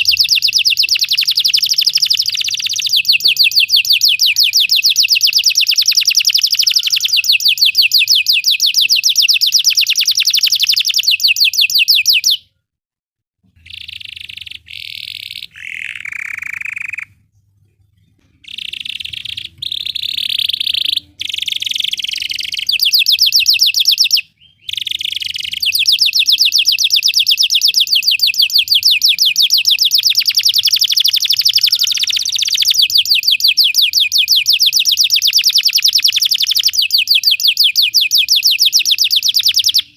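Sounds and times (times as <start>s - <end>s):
canary singing: 0.0s - 12.4s, 13.5s - 39.9s.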